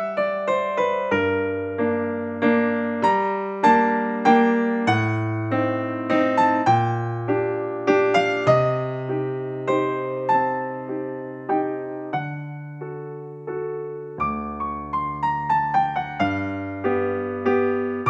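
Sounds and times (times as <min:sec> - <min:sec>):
gentle keyboard melody: 0:00.0 - 0:18.0.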